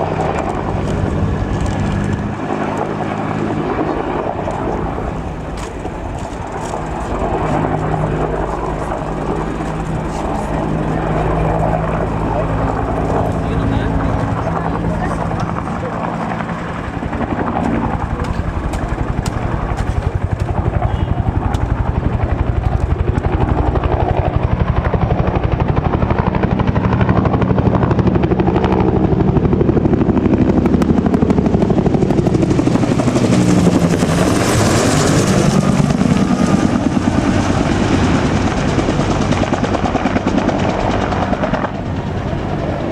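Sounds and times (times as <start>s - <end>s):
helicopter flying overhead: 0.0s - 42.9s.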